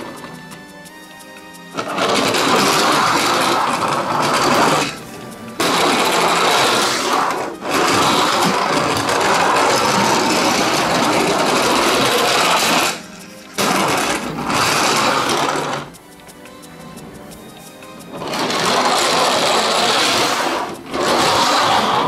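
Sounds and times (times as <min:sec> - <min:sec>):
toy motor whirring: 0:01.7 - 0:22.0.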